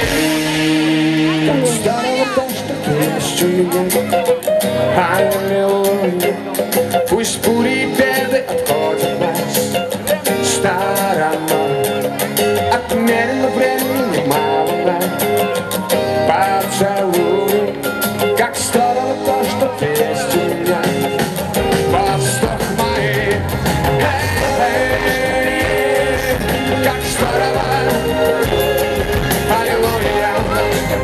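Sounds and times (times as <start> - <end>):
band backing with steady beat: 0.0 - 31.0
electric bass: 0.0 - 31.0
man singing: 0.0 - 31.0.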